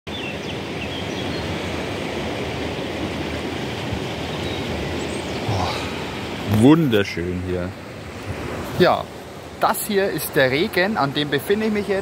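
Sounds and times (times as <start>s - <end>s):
river water rushing: 0.1s - 12.0s.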